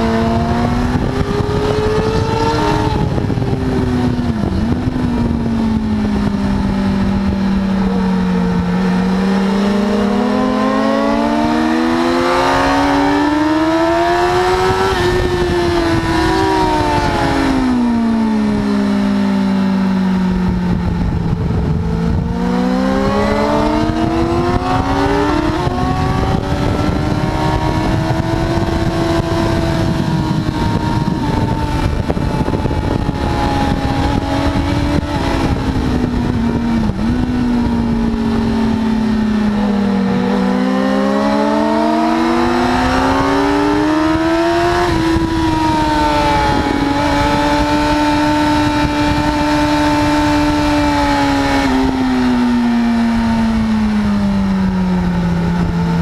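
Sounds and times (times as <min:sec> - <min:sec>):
motorcycle engine at speed: 0:00.0 - 0:56.0
wind rush: 0:00.0 - 0:56.0.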